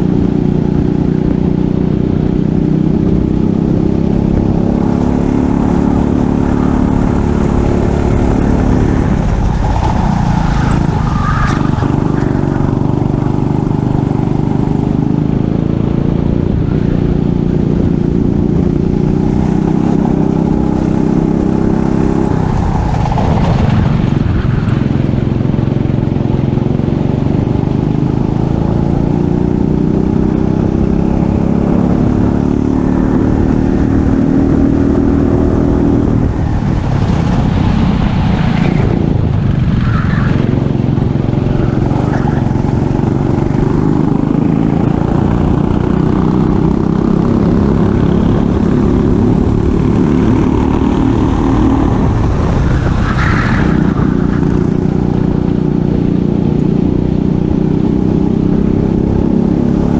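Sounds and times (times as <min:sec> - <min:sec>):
racing kart engine accelerating: 0:00.0 - 0:59.9.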